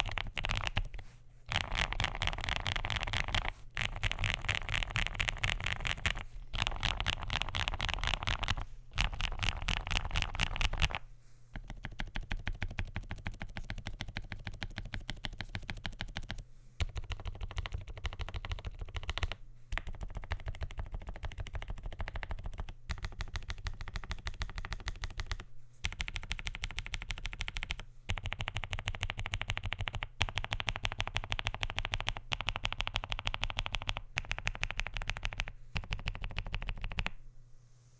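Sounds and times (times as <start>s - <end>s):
mechanical keyboard typing: 0.0s - 11.0s, 11.6s - 37.2s.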